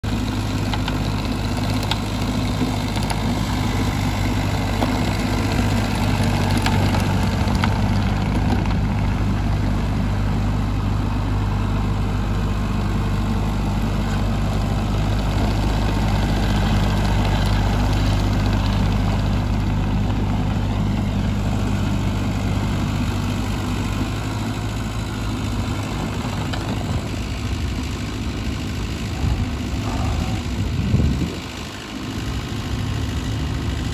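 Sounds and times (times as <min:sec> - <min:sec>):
mini skid steer engine running: 0:00.0 - 0:33.9.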